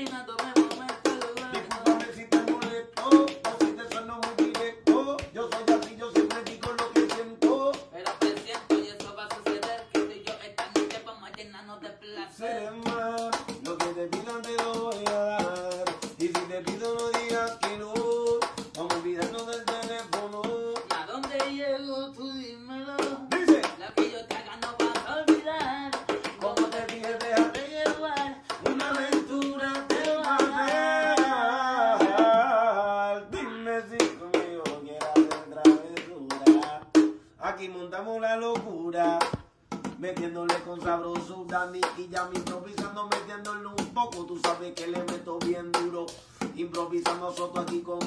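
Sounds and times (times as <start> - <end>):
hand percussion rhythm: 0.0 - 11.3, 12.7 - 21.6, 22.9 - 32.5, 33.4 - 37.3, 38.5 - 48.0.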